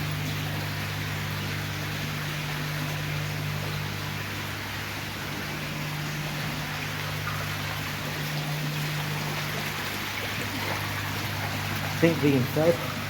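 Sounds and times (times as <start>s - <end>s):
steady low hum: 0.0s - 13.0s
water trickling into pond: 0.0s - 13.0s.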